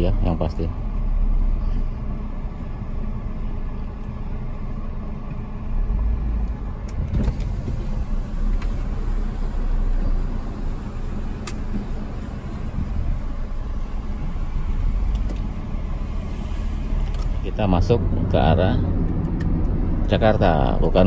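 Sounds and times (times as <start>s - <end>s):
car rumbling at low speed: 0.0s - 21.0s.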